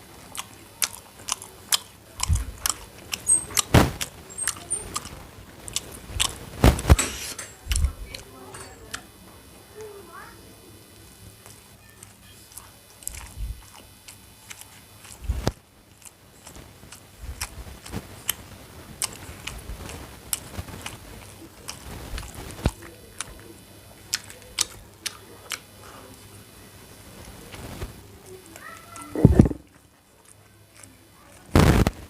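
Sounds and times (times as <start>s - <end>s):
person biting and chewing food: 0.1s - 8.3s, 11.4s - 26.2s, 27.2s - 32.0s.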